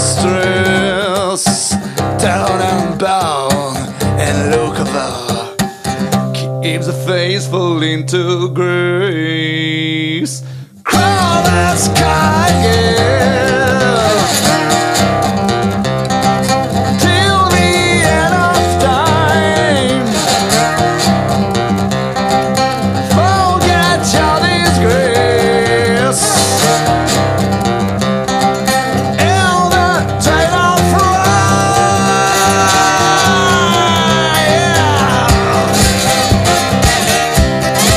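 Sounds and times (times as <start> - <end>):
slide guitar lead: 0.0 - 37.9.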